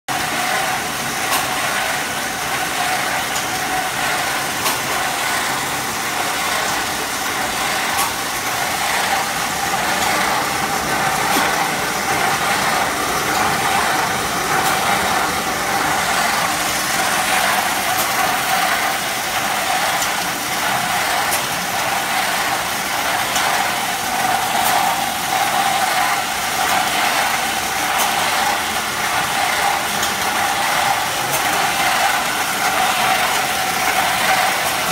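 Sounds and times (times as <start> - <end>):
motor and gearbox running: 0.1 - 34.9.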